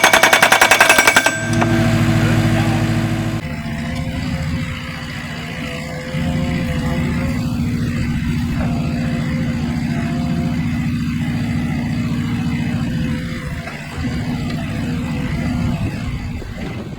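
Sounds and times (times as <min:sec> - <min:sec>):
hydraulic post driver pounding: 0:00.0 - 0:16.9
skid steer engine running: 0:00.0 - 0:16.9.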